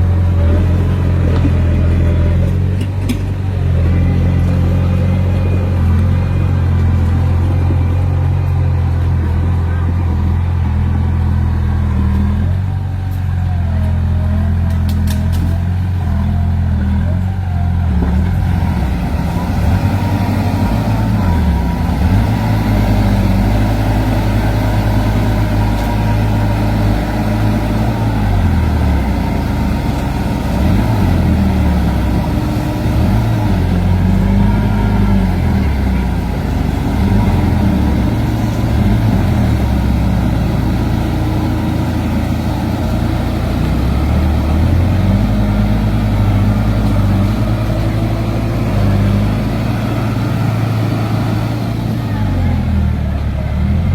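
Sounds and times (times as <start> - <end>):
heavy diesel engines revving: 0.0 - 53.9.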